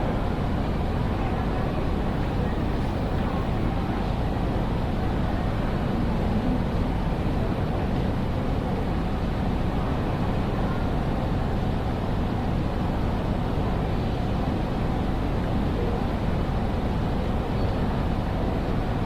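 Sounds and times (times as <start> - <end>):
station hall background rumble: 0.0 - 19.0.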